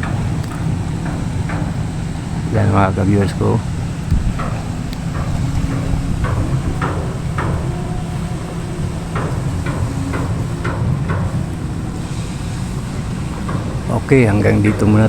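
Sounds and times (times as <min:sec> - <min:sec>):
low rumble: 0:00.0 - 0:15.0
sharp knocks: 0:00.0 - 0:15.0.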